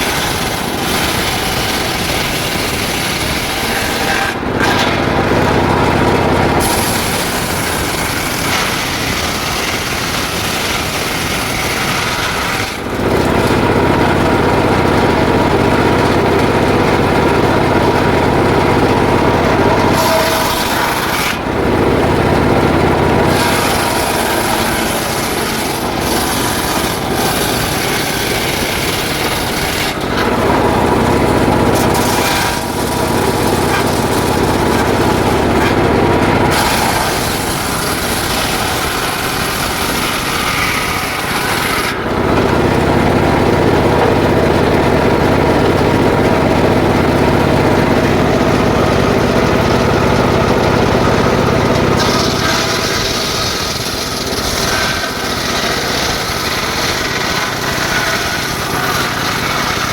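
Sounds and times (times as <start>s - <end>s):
circular saw cutting wood: 0.0s - 59.9s.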